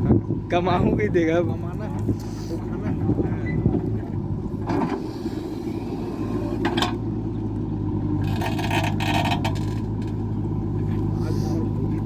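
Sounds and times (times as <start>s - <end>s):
heavy machine engine idling: 0.0s - 12.0s.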